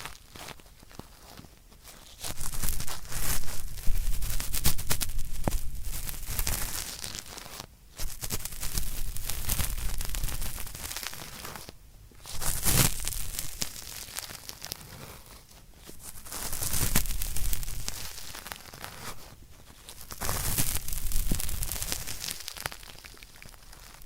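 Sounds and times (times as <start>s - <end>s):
cotton swab scratching earwax: 0.0s - 24.0s.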